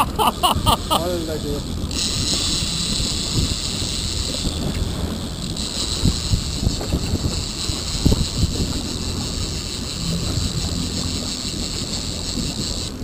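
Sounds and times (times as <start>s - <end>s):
boat engine low rumble: 0.0s - 13.0s
wind buffeting microphone: 0.0s - 13.0s.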